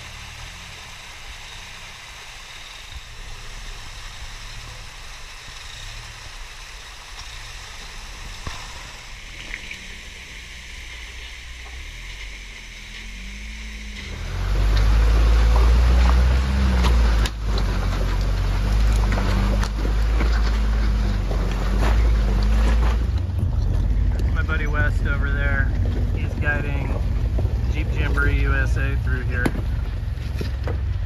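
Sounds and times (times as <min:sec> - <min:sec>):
creek water running: 0:00.0 - 0:31.0
pickup engine at low revs: 0:00.0 - 0:31.0.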